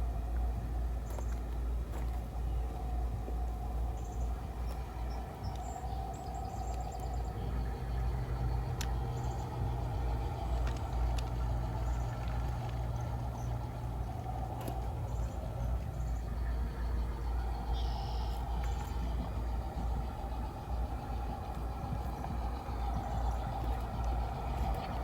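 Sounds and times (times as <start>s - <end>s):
birds chirping: 0.0s - 25.0s
model locomotive engine drone: 0.0s - 25.0s.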